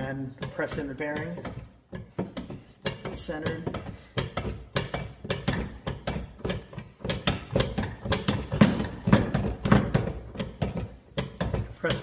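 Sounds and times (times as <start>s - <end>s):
hydraulic press knocking: 0.0s - 12.0s.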